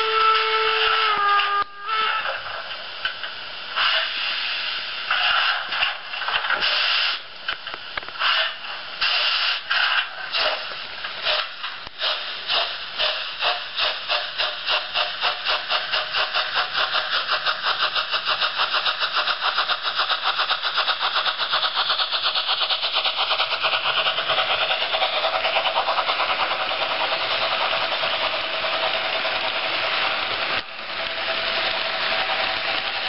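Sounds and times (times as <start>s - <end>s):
model train steam chuffs from speaker: 0.0s - 7.3s, 8.2s - 33.0s.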